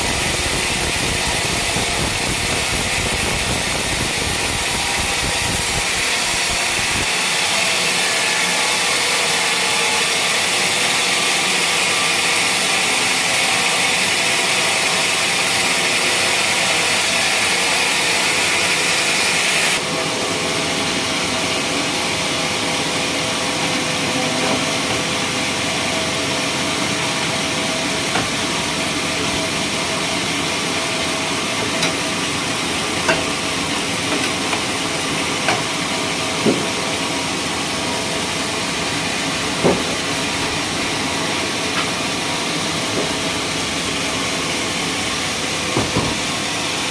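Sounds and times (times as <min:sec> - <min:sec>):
machine saw cutting wood: 0:00.0 - 0:46.9.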